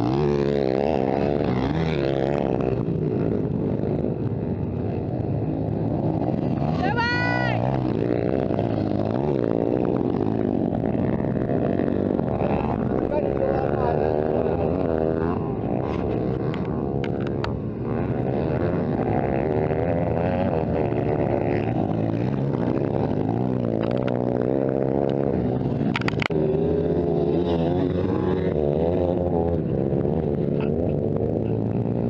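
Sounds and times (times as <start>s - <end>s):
motocross bikes revving: 0.0s - 32.0s.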